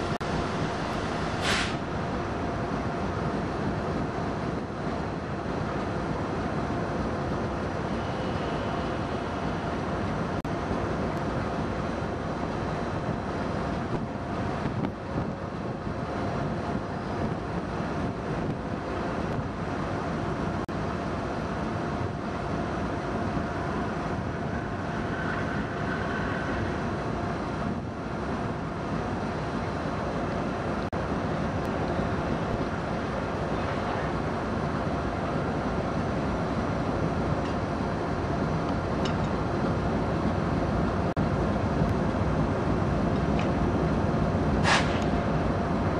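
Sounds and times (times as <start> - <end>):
diesel locomotive rumble: 0.0 - 45.9
thin steady whine: 0.0 - 45.9.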